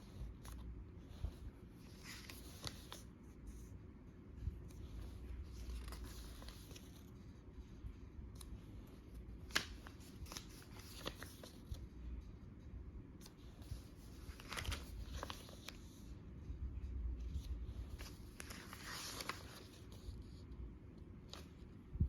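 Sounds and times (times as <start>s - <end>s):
paper pages rustling: 0.0s - 3.7s, 4.4s - 12.0s, 13.2s - 16.1s, 17.2s - 20.5s, 21.2s - 21.9s.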